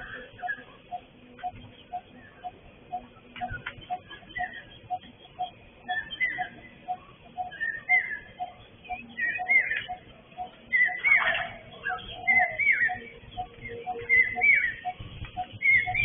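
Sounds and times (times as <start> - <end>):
birds whistling: 0.0 - 16.0.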